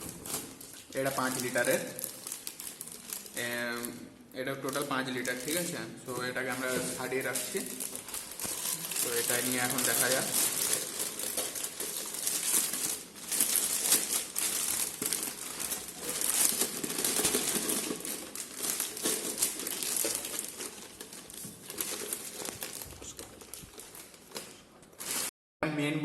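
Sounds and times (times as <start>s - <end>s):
packaging wrap crinkling: 0.0s - 4.0s, 4.6s - 25.3s.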